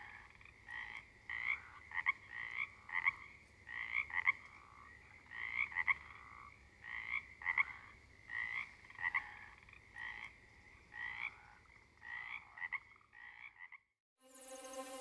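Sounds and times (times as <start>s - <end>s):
frogs croaking: 0.0s - 14.0s.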